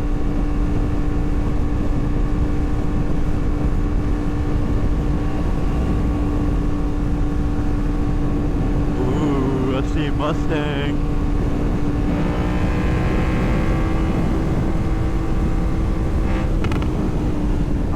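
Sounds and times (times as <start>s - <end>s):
motorcycle engine cruising: 0.0s - 17.9s.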